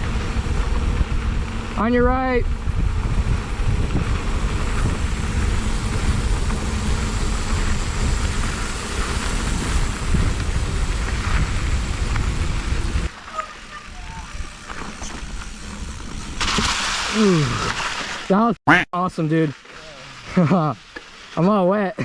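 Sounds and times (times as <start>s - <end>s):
wind rushing over microphone: 0.0s - 17.8s
bike tyre noise on trail: 0.0s - 18.5s, 19.2s - 22.0s.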